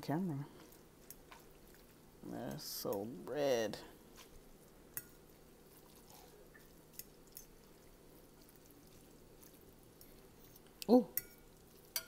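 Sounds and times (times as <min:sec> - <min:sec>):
wet stirring of noodles: 0:00.3 - 0:12.0.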